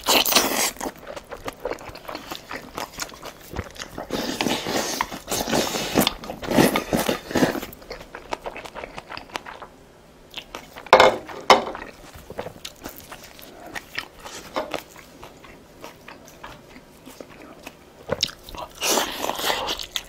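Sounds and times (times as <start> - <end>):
close chewing of food: 0.0 - 20.0.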